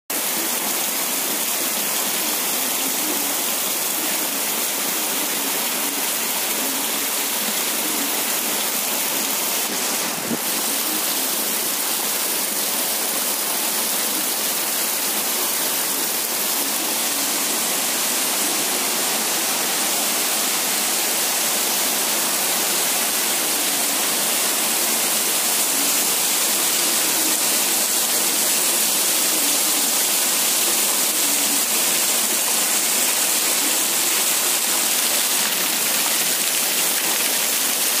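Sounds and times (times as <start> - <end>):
heavy rain hiss: 0.2 - 38.0.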